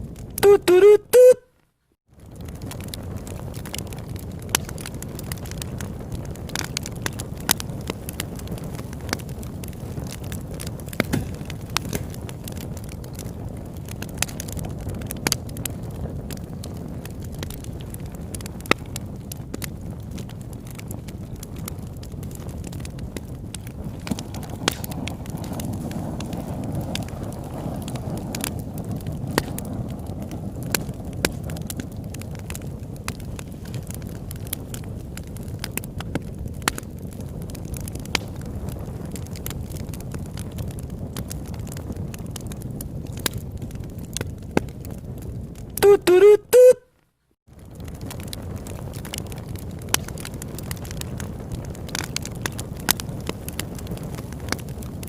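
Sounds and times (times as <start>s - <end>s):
low fire rumble: 0.0s - 0.6s, 2.0s - 46.3s, 47.0s - 55.0s
campfire crackling and popping: 0.0s - 55.0s.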